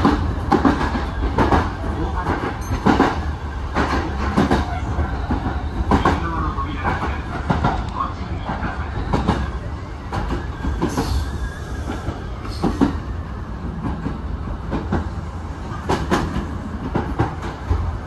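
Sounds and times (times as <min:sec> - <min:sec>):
wheels clacking over rail joints: 0:00.0 - 0:11.2, 0:11.8 - 0:18.0
train rumble: 0:00.0 - 0:18.0.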